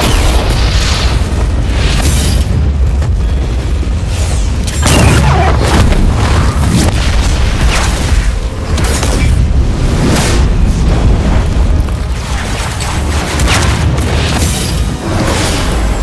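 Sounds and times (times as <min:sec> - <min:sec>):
deep continuous rumble: 0:00.0 - 0:16.0.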